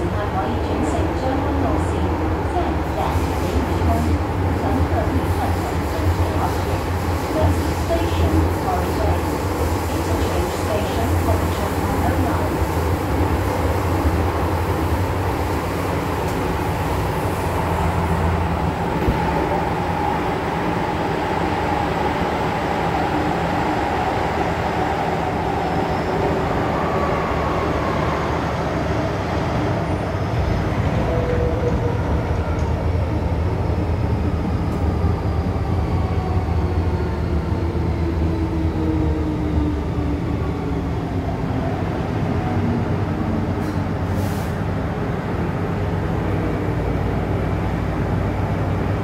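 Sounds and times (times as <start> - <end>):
train wheels rumbling on track: 0.0 - 49.0.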